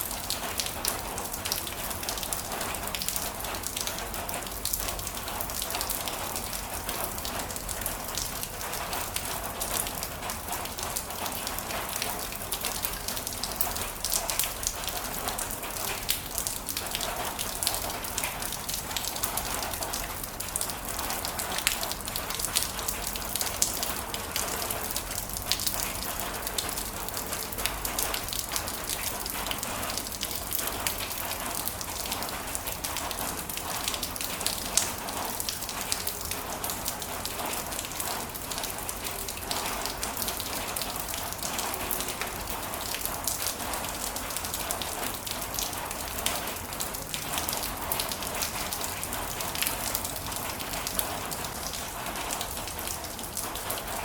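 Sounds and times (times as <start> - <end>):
heavy rain on a surface: 0.0 - 54.0
raindrops spattering: 0.0 - 54.0.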